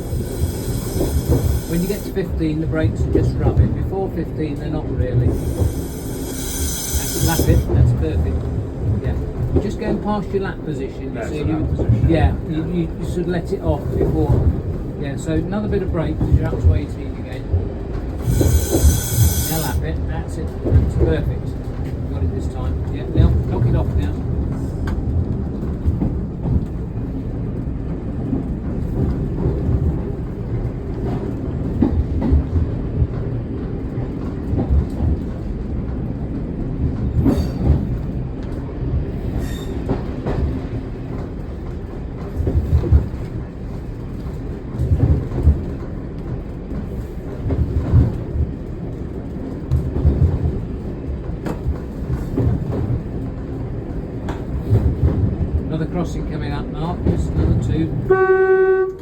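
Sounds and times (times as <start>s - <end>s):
railcar low rumble: 0.0s - 59.0s.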